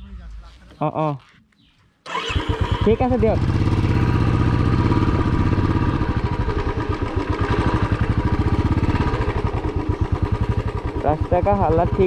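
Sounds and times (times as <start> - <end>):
motorcycle engine running: 2.1 - 12.0.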